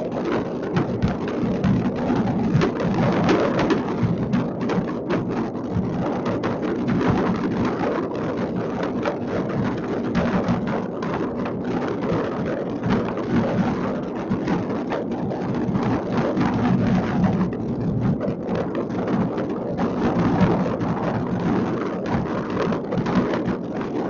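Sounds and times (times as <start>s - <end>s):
distant fireworks crackling and popping: 0.0s - 24.0s.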